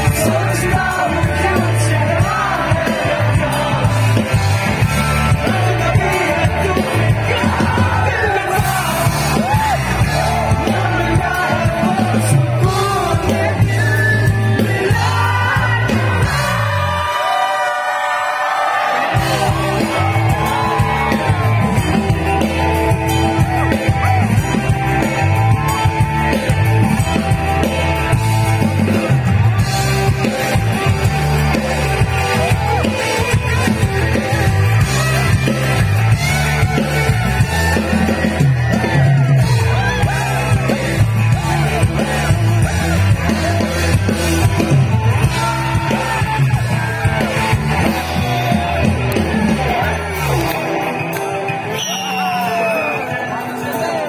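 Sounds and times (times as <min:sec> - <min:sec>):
live rock band through pa: 0:00.0 - 0:54.0.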